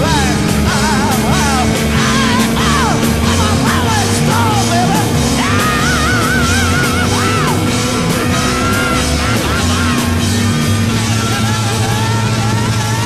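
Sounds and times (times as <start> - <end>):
singer holding wavering notes: 0.0 - 13.0
steady drum beat: 0.0 - 13.0.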